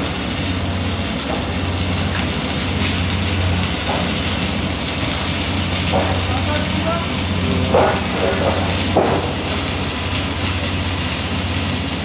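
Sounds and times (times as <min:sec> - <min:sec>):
welding arc crackling hiss: 0:00.0 - 0:12.0
welding machine low hum: 0:00.0 - 0:12.0.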